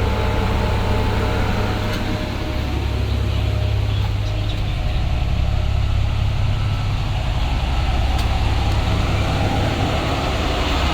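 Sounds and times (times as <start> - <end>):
diesel bus engine rumbling: 0.0 - 10.9.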